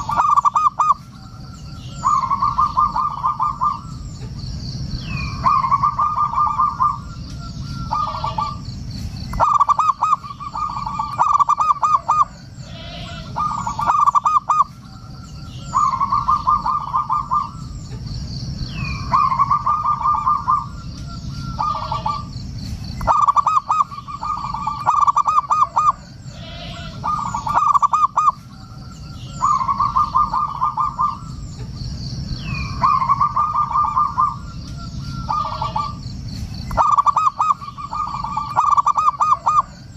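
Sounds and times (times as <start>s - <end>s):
dove cooing: 0.0s - 4.3s, 5.0s - 8.7s, 9.3s - 18.0s, 18.8s - 22.3s, 23.0s - 31.7s, 32.4s - 39.9s
faint bird chirps: 0.0s - 39.9s.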